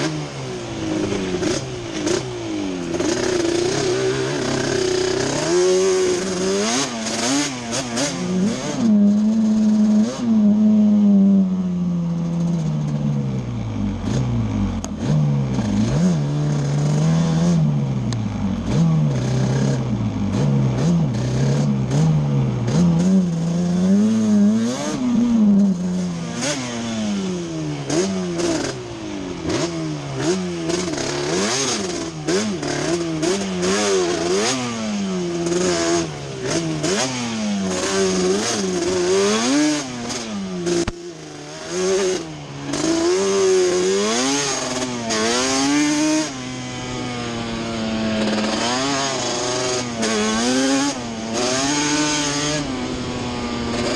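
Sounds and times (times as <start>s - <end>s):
two-stroke engine revving: 0.0s - 53.9s.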